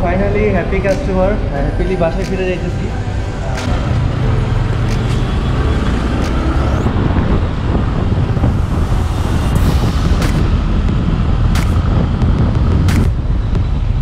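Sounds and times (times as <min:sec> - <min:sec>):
road noise rumble: 0:00.0 - 0:14.0.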